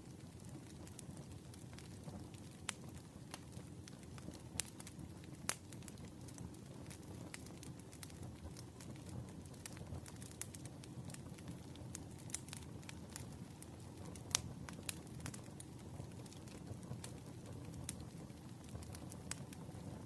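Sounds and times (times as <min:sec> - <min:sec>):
firewood crackling: 0:00.0 - 0:20.0
low rumble of flames: 0:00.0 - 0:20.0.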